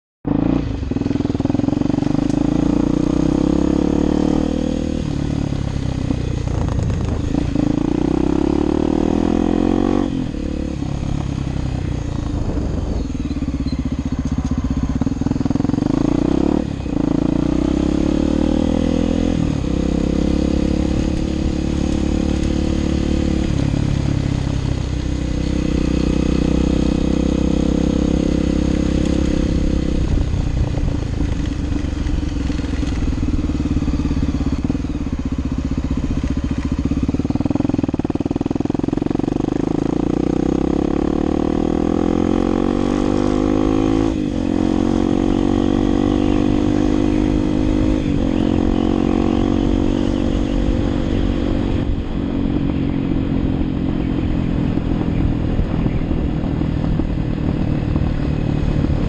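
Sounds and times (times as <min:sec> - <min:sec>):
motorcycle engine running: 0:00.2 - 0:59.0.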